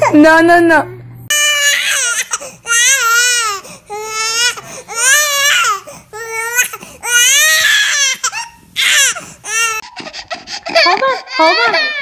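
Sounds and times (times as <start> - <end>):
baby crying: 1.3 - 12.0.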